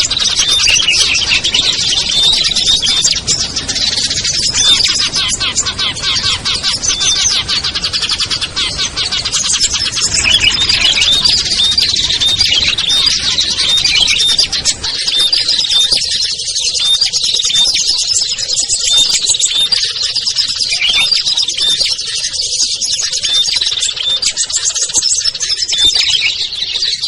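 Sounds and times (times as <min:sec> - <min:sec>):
high ticking bird calls: 0:00.0 - 0:27.0
songbirds chattering and chirping: 0:00.0 - 0:27.0.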